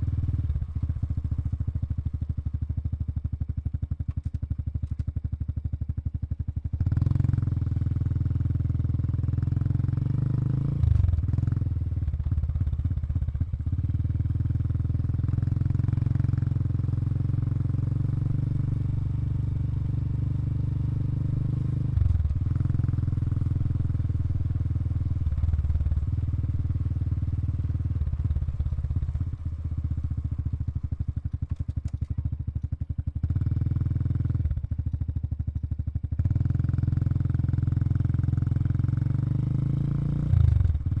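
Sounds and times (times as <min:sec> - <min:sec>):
motorcycle engine exhaust: 0:00.0 - 0:41.0.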